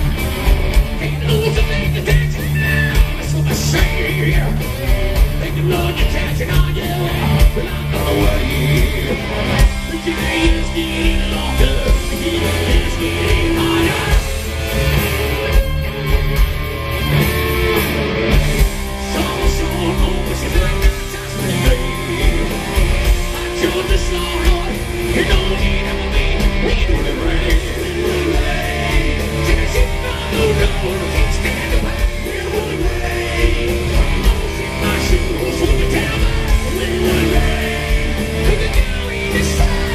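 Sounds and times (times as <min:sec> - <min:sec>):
drums: 0:00.0 - 0:39.9
electric guitars: 0:00.0 - 0:39.9
man singing: 0:00.9 - 0:04.7, 0:05.3 - 0:14.5, 0:19.0 - 0:39.9.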